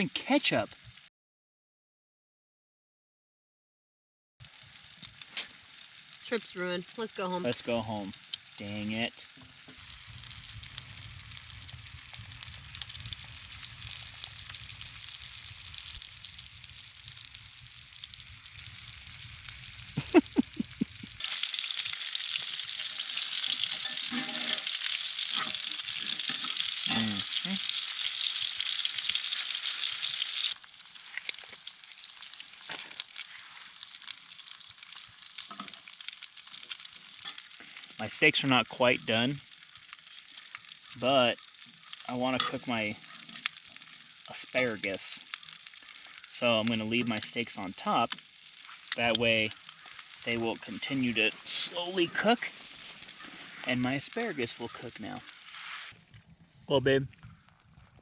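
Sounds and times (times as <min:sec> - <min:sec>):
steaks sizzling in a pan: 0:04.5 - 0:38.5, 0:39.2 - 0:56.0.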